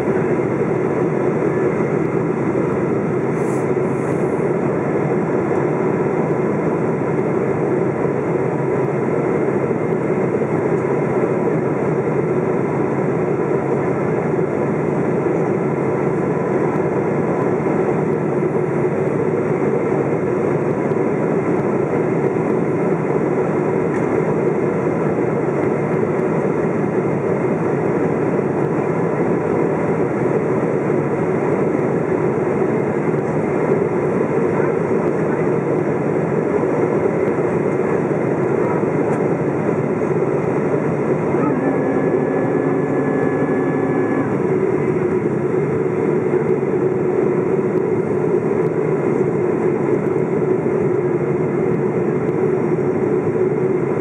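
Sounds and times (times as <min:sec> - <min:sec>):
airplane cabin engine noise: 0:00.0 - 0:54.0
faint steady whine: 0:00.0 - 0:54.0.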